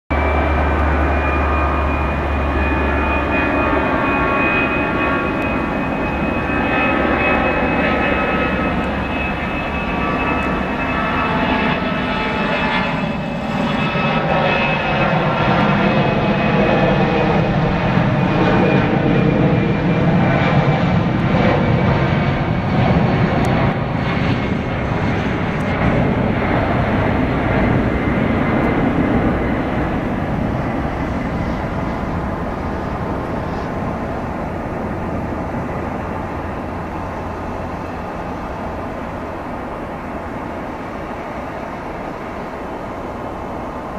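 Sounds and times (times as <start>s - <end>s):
high fan whine: 0.1s - 43.9s
jet engines at takeoff thrust: 0.1s - 43.9s.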